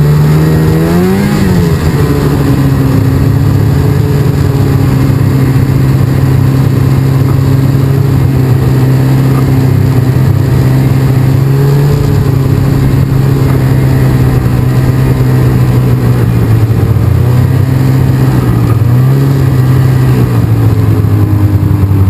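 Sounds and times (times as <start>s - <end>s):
snowmobile engine droning: 0.0s - 22.0s.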